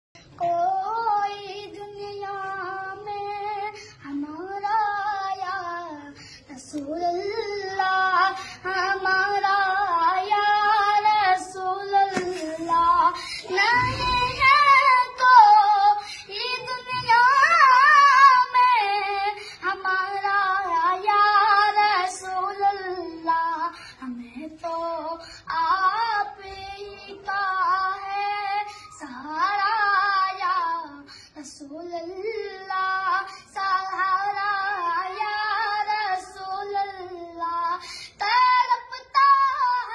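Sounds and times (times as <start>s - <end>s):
boy singing devotional song: 0.2s - 39.9s.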